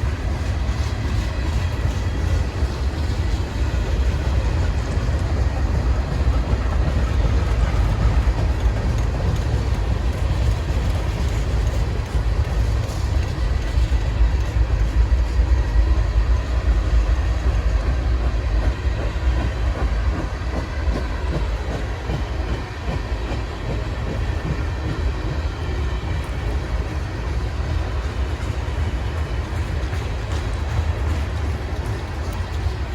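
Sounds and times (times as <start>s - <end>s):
wheels clicking over rail joints: 0.0s - 32.9s.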